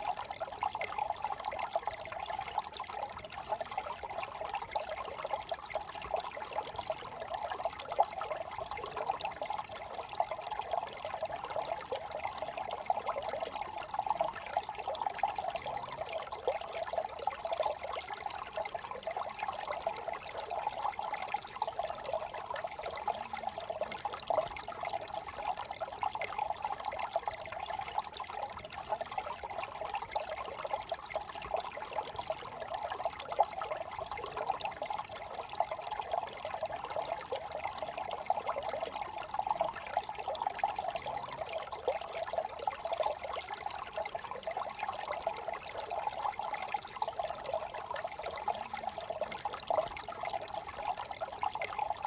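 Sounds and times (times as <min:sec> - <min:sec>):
brook trickling over stones: 0:00.0 - 0:52.0.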